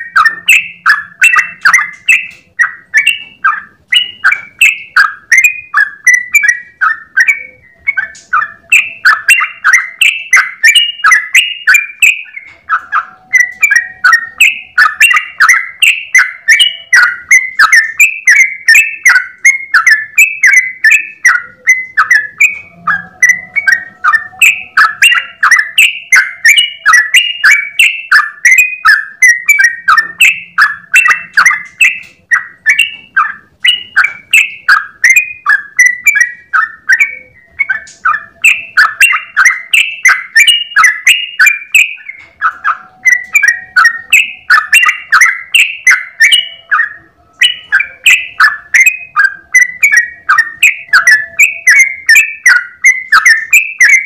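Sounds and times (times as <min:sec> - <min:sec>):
bulbul singing bubbly chirps: 0:00.0 - 0:54.0.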